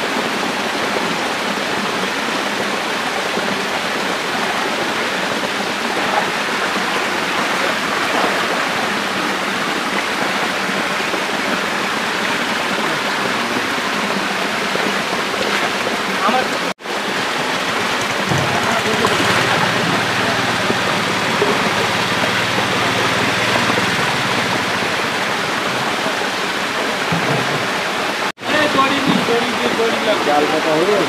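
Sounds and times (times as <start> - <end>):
water rushing and splashing: 0.0 - 31.0.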